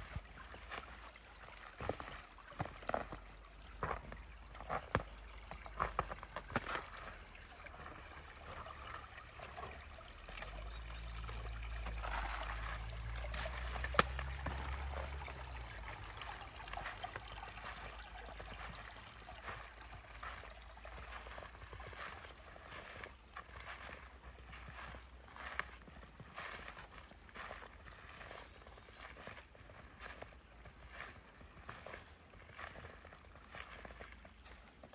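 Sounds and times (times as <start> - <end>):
stream trickling: 0.0 - 34.9.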